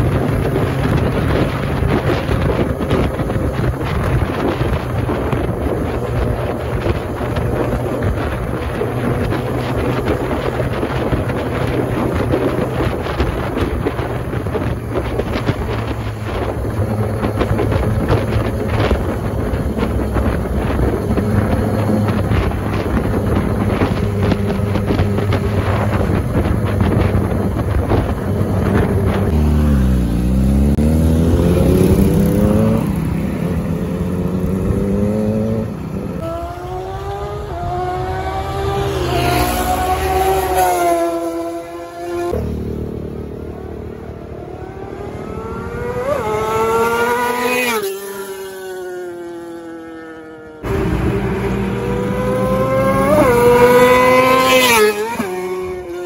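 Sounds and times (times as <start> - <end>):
wind buffeting microphone: 0.0 - 48.9, 50.1 - 56.0
motorcycle engine cruising: 0.0 - 56.0.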